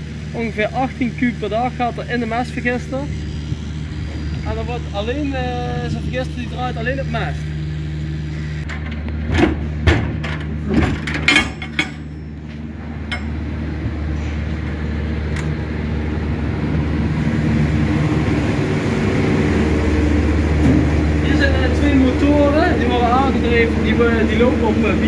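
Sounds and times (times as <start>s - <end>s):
engine generator humming: 0.0s - 25.0s.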